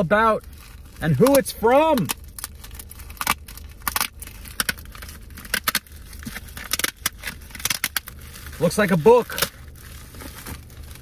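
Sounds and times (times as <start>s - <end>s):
padded envelope crinkling: 0.0s - 11.0s.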